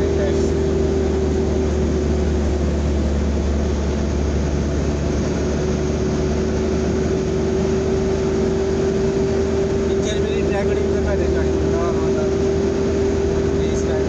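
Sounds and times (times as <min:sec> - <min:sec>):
pickup truck engine driving: 0:00.0 - 0:14.0
road noise: 0:00.0 - 0:14.0.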